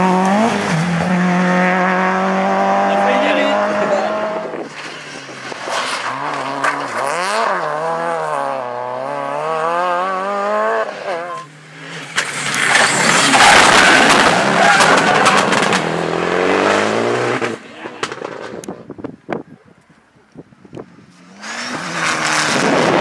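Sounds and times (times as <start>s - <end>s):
rally car engine at high revs: 0.0s - 18.6s, 21.1s - 23.0s
tyres skidding with crackles: 0.0s - 19.1s, 19.8s - 23.0s.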